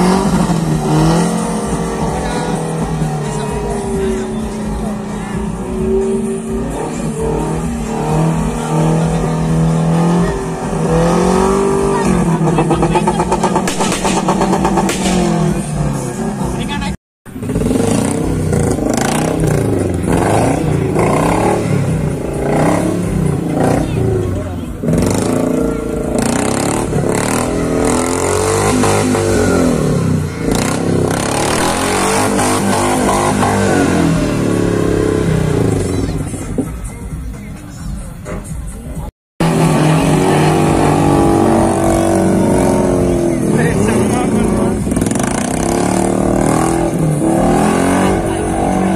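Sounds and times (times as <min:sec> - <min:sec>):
pickup truck engine revving: 0:00.0 - 0:36.6, 0:39.4 - 0:48.9.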